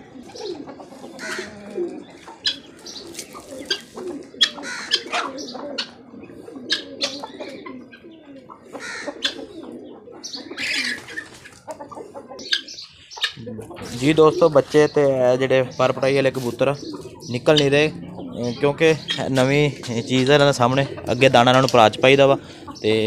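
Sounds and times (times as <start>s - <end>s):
chickens and guinea fowl calling: 0.0s - 23.0s
pigeons cooing: 0.0s - 23.0s.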